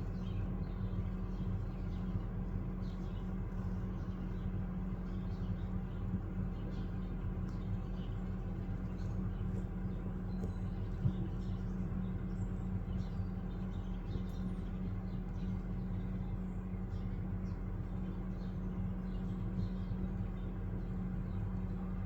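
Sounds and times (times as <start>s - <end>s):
small birds chirping: 0.0s - 22.0s
steady low hum: 0.0s - 22.0s.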